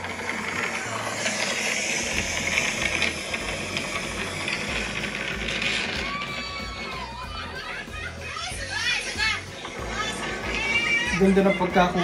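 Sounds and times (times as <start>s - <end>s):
low hum: 0.0s - 11.3s.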